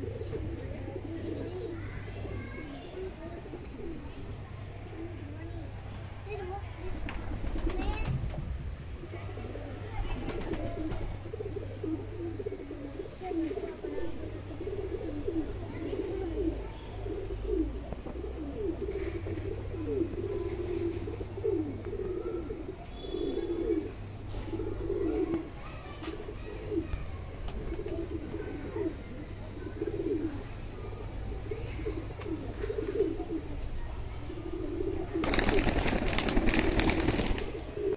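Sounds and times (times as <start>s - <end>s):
pigeons cooing: 0.0s - 8.1s, 8.8s - 37.9s.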